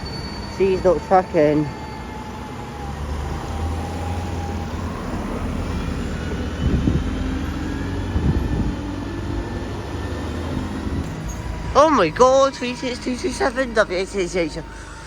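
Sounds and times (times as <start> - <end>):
vehicle engine running low: 2.4 - 15.0.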